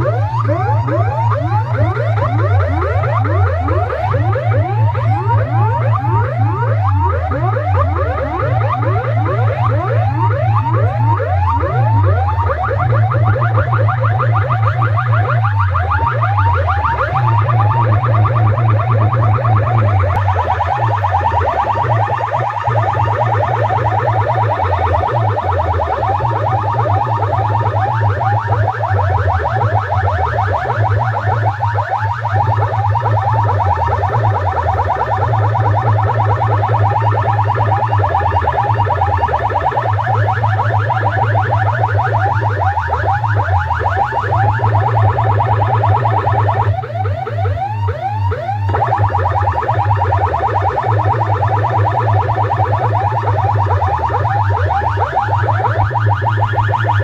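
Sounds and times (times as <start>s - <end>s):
siren-like rising sweeps: 0.0s - 57.0s
heavy bass: 8.3s - 57.0s.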